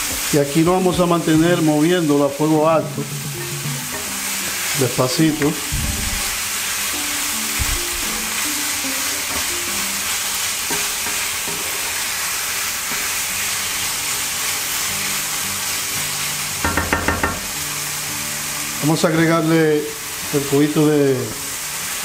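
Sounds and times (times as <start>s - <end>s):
food sizzling in a frying pan: 0.0s - 22.0s.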